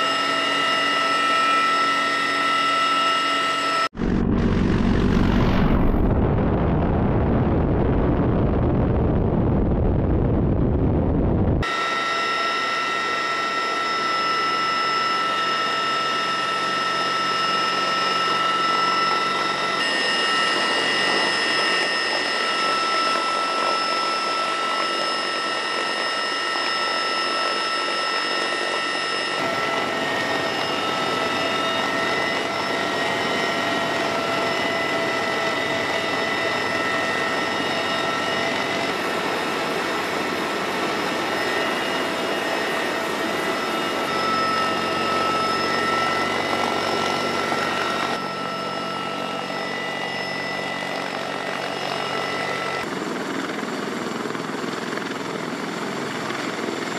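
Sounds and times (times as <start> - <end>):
high whining tones: 0.0 - 6.9, 11.5 - 52.9
helicopter rotor and engine: 0.0 - 7.0, 10.8 - 56.9.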